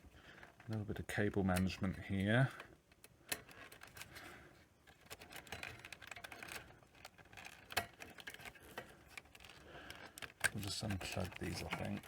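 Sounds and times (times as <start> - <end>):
small clicks and rustles of wiring: 0.0 - 12.0.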